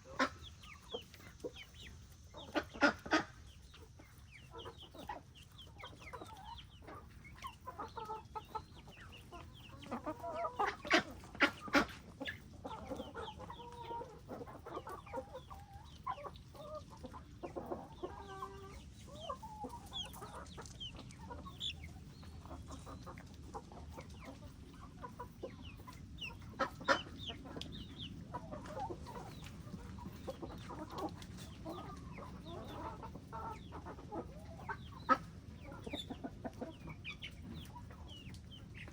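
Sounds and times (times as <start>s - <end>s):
chickens clucking and calling: 0.0s - 38.9s.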